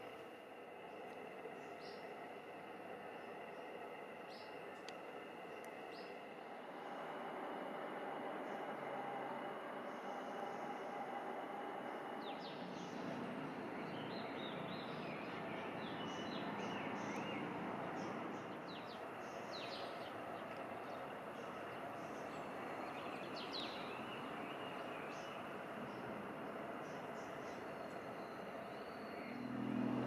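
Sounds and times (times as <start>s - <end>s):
birds chirping: 0.0s - 30.0s
steady background hiss: 0.0s - 30.0s.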